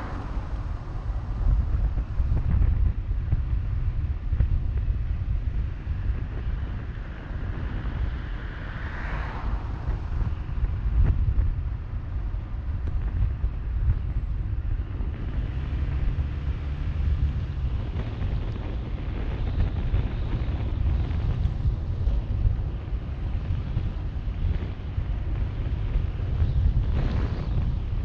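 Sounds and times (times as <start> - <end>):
road and tyre noise: 0.0 - 28.0
wind buffeting microphone: 0.0 - 28.0.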